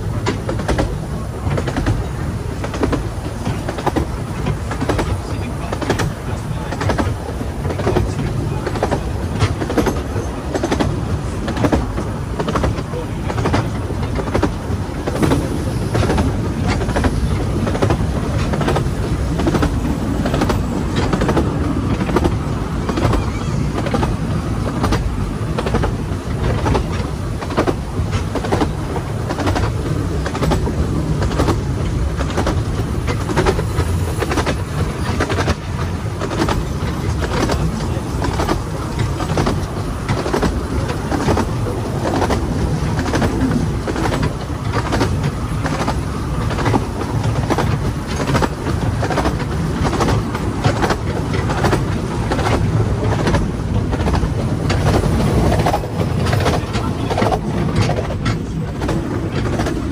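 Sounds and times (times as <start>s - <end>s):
train carriage rumble: 0.0s - 59.9s
wheels clicking over rail joints: 0.0s - 59.9s.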